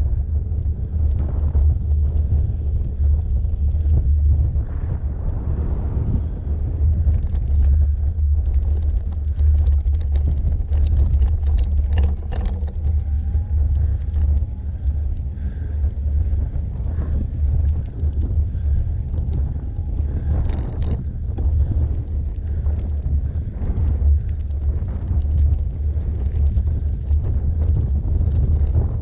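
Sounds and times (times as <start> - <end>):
bike clicking and rattling: 0.0 - 29.0
bike tyres on gravel: 0.0 - 29.0
wind buffeting microphone: 0.0 - 29.0.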